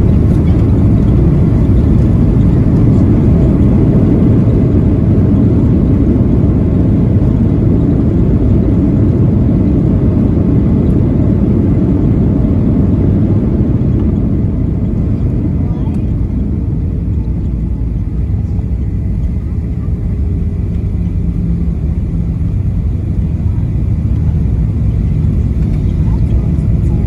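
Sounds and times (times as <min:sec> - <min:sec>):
air rushing along fuselage: 0:00.0 - 0:27.0
aircraft cabin engine rumble: 0:00.0 - 0:27.0.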